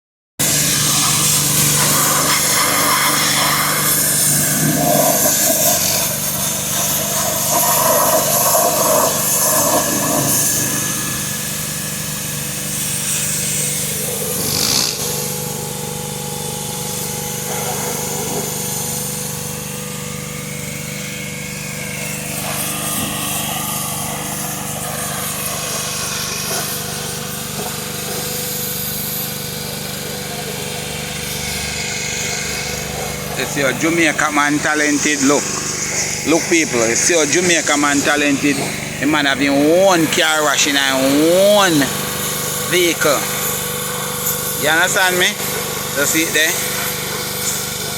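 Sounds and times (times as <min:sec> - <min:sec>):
hiss: 0:00.4 - 0:47.9
small engine humming: 0:00.4 - 0:47.9.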